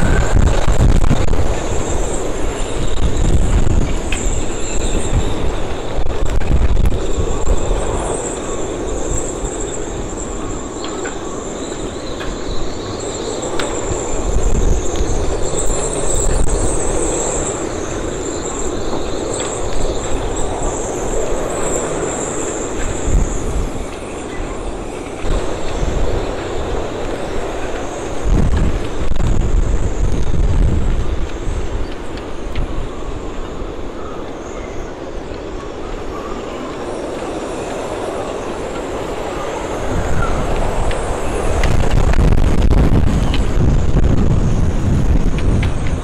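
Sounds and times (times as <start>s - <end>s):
strong wind buffeting microphone: 0.0s - 46.0s
wind whistling in rigging: 0.0s - 46.0s.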